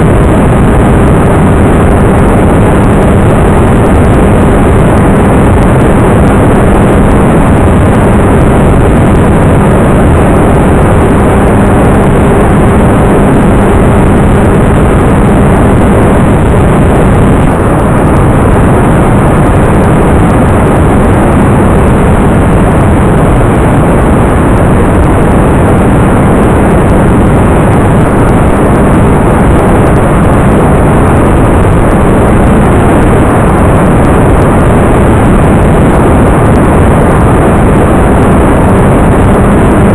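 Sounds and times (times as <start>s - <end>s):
wind and propeller rush: 0.0s - 39.9s.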